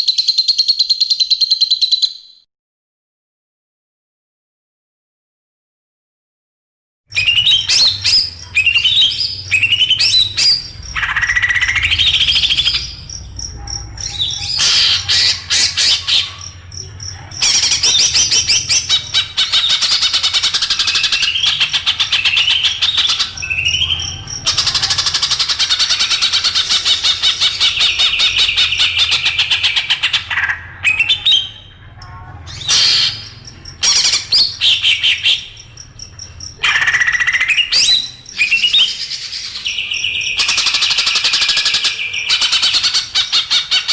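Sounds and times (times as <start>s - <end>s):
songbird chattering song: 7.1s - 43.9s.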